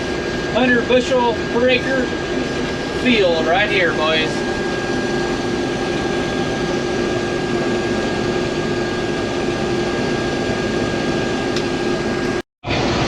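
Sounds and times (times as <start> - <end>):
combine harvester running: 0.0 - 13.0.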